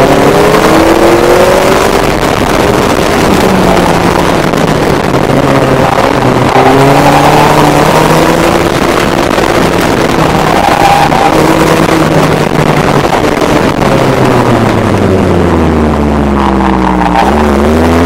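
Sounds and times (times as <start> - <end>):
car engine while driving: 0.0 - 18.0.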